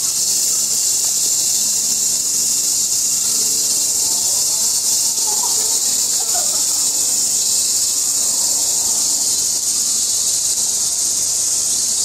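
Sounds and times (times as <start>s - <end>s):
cicadas shrilling: 0.0s - 12.0s.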